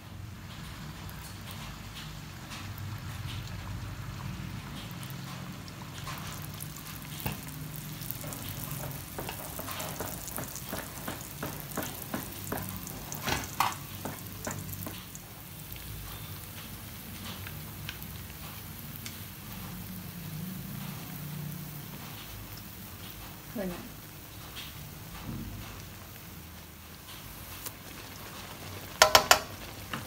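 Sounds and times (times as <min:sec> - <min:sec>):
batter sizzling in hot oil: 0:00.0 - 0:30.0.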